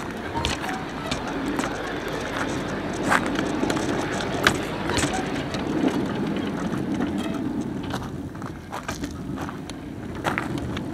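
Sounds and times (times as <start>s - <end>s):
clicks and knocks of wheels: 0.0s - 10.9s
train wheels rumbling on track: 0.0s - 10.9s.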